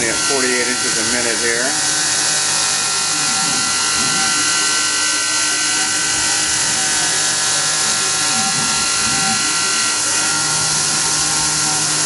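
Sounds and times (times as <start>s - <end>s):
milling spindle whine: 0.0s - 12.0s.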